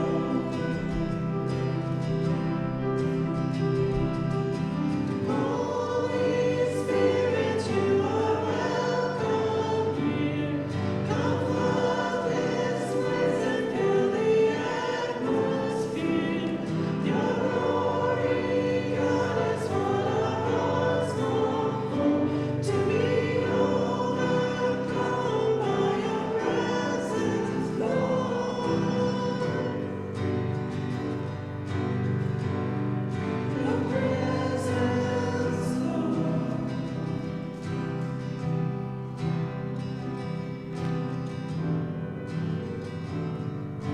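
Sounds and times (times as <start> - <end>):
group singing with instruments: 0.0 - 41.6.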